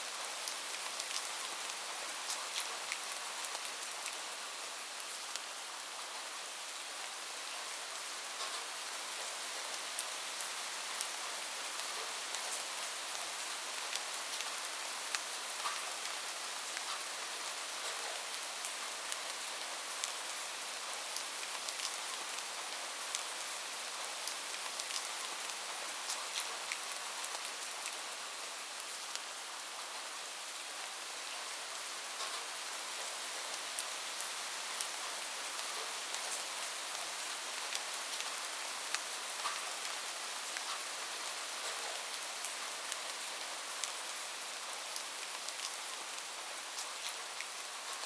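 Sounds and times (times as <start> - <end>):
steady rain hiss: 0.0 - 48.0
raindrops ticking on a surface: 0.1 - 7.6, 8.2 - 29.8, 31.4 - 48.0.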